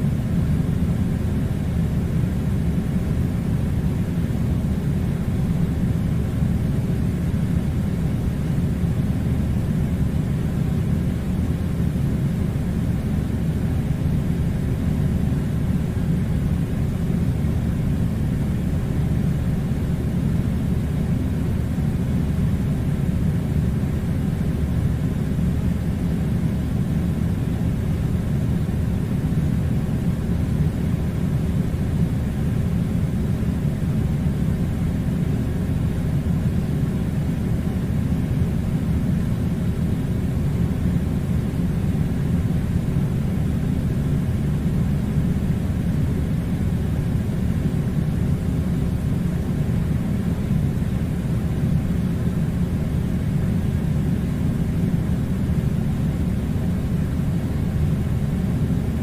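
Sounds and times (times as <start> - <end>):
air conditioner blowing air: 0.0 - 59.0.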